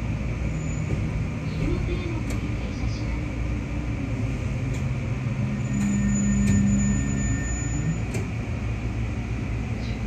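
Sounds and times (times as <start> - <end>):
train motor hum: 0.0 - 10.0
train rumbling: 0.0 - 10.0.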